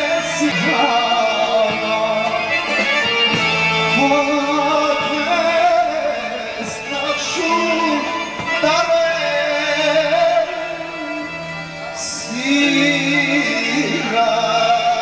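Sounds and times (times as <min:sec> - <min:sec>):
band led by accordion: 0:00.0 - 0:15.0
man singing: 0:00.0 - 0:15.0.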